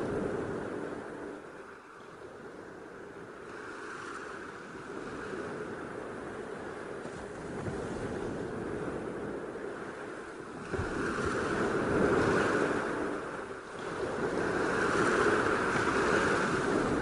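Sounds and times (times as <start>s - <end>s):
ocean surf breaking: 0.0s - 17.0s
wave wash running over sand: 0.0s - 17.0s.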